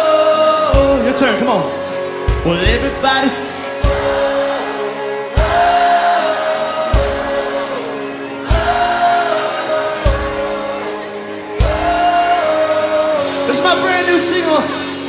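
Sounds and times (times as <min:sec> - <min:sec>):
crowd singing in unison: 0:00.0 - 0:02.6, 0:03.2 - 0:15.0
live band playing: 0:00.0 - 0:15.0.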